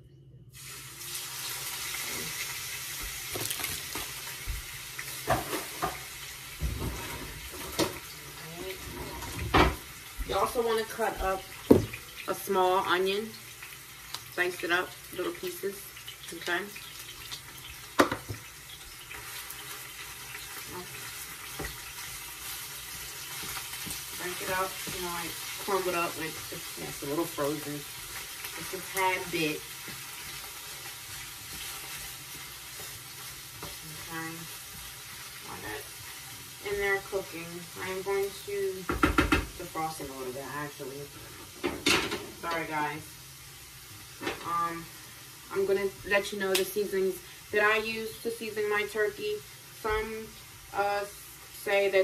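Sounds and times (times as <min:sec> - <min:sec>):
meat sizzling in a frying pan: 0:00.5 - 0:52.0.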